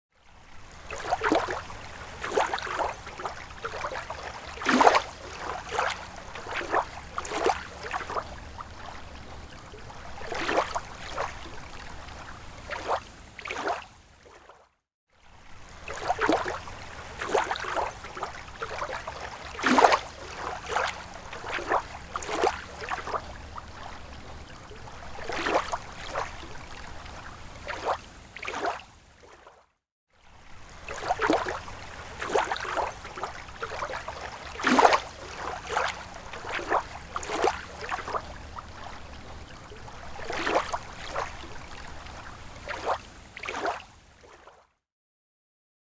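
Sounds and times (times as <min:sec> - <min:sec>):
water sloshing and splashing: 0:00.2 - 0:44.8.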